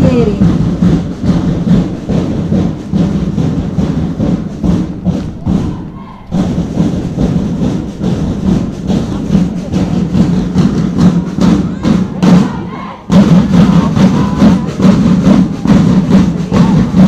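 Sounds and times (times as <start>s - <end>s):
loud distorted drumming: 0.0s - 17.0s.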